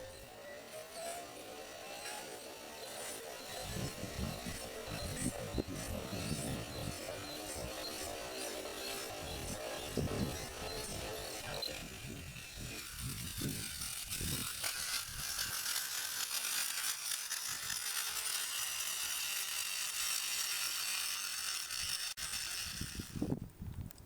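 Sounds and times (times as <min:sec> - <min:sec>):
toy wheel whirring buzz: 0:00.0 - 0:23.5.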